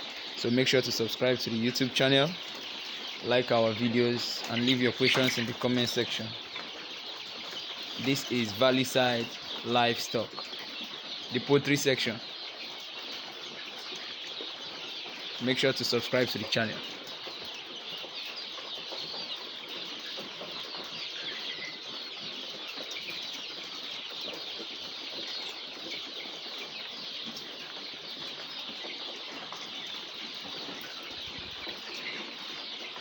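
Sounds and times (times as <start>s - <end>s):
chickens cheeping and chirping: 0.0s - 33.0s.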